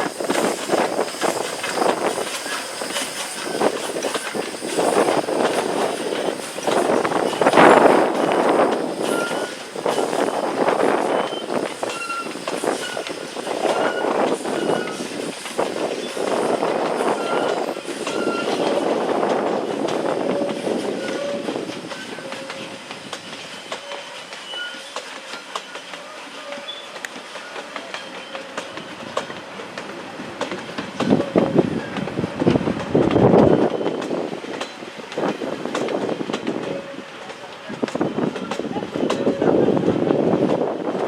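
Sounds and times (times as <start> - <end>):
train wheels clattering on rails: 0.0 - 41.0.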